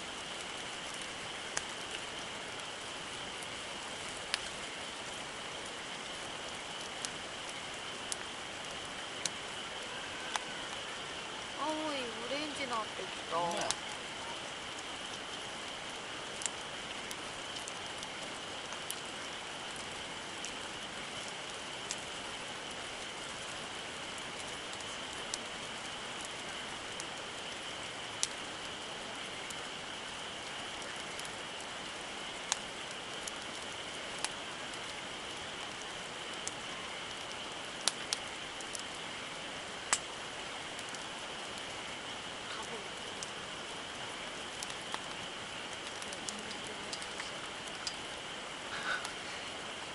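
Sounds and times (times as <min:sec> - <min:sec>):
campfire hissing: 0:00.0 - 0:49.9
fire crackling pops: 0:00.0 - 0:49.9.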